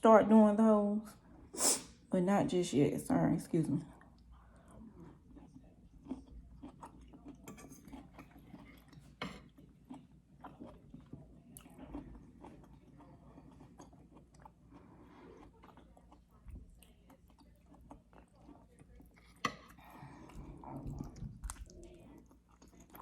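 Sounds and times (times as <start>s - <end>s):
chewing and biting food: 4.0s - 23.0s.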